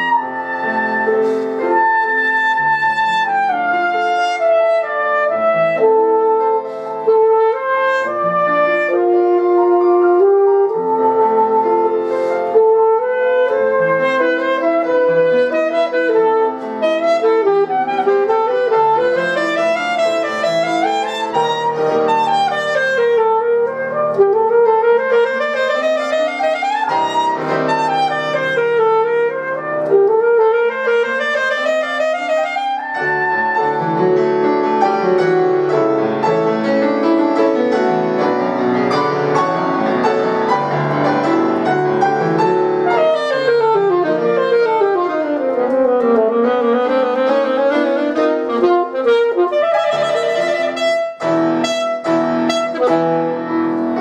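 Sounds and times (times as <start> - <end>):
alto saxophone solo: 0.0 - 54.0
grand piano accompaniment: 0.0 - 54.0.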